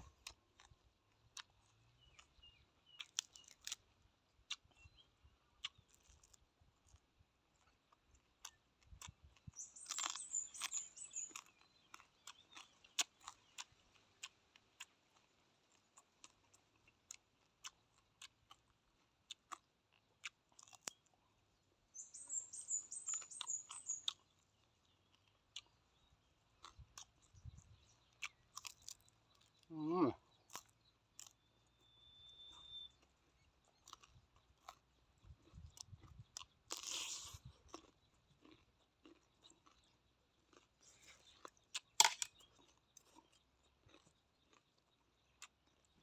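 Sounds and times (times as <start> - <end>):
chewing and crunching food: 0.0 - 46.0.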